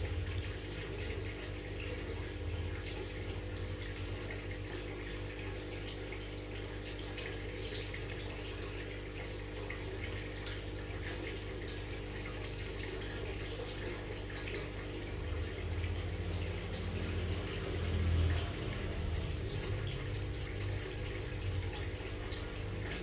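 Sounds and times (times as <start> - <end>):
filter pump hum: 0.0 - 23.0
water trickling and bubbling: 0.0 - 23.0.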